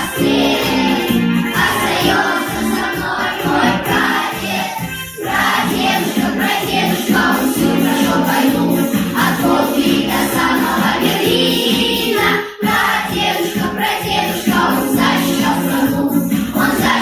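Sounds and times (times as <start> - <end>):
children's choir singing: 0.0 - 17.0
instrumental backing track: 0.0 - 17.0.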